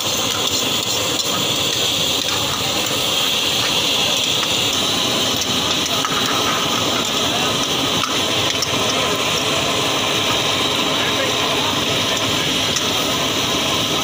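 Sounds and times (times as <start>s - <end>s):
prawns sizzling in hot oil: 0.0s - 14.0s.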